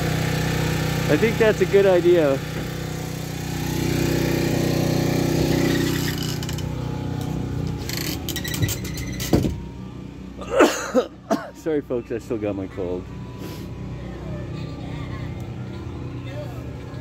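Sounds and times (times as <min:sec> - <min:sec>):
small engine running: 0:00.0 - 0:10.6, 0:11.6 - 0:17.0.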